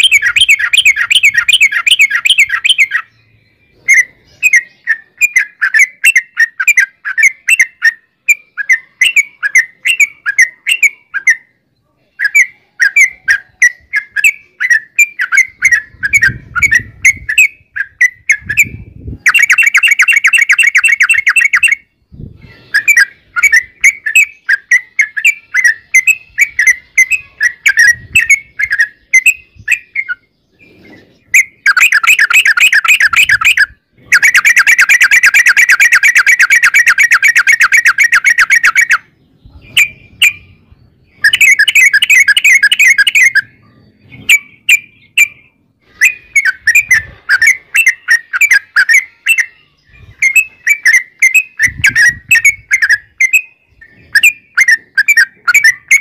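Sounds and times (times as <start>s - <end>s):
bird fast rolling trills: 0.0s - 11.6s, 12.2s - 56.0s
bird chirping bubbly phrases: 0.0s - 56.0s.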